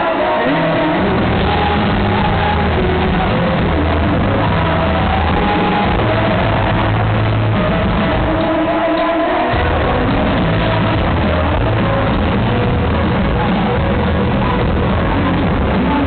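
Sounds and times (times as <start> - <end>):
held bass notes: 0.0 - 16.0
live rock band: 0.0 - 16.0.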